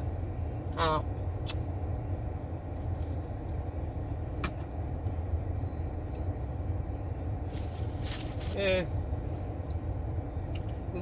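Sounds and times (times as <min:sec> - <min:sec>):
car idling with air conditioner: 0:00.0 - 0:11.0.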